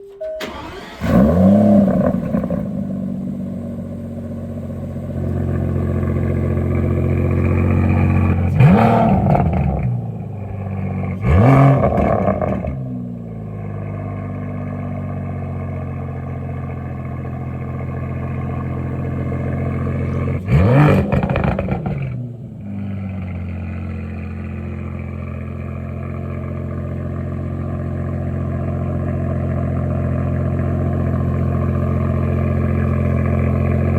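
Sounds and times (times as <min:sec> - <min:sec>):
car engine starting and idling: 0:00.0 - 0:33.9
engine throttle blips: 0:00.0 - 0:33.9.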